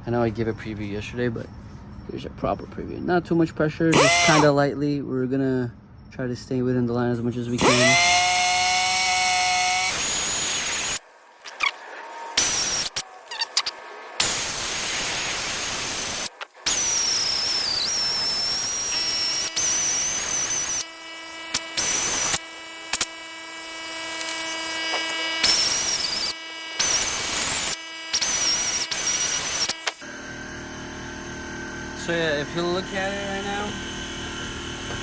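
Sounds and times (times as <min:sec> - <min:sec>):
die grinder high whine: 0:03.9 - 0:04.6, 0:07.3 - 0:35.0.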